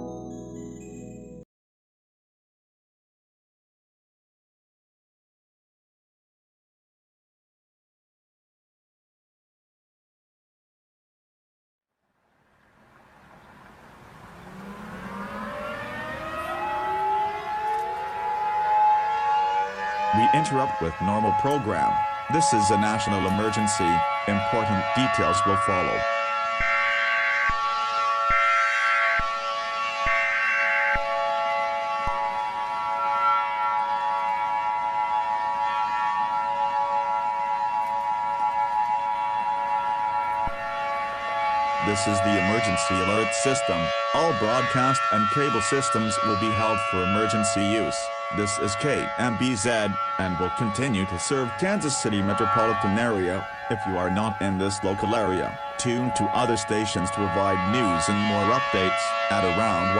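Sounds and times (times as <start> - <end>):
civil defense sirens winding up: 0.0 - 1.4, 12.4 - 59.9.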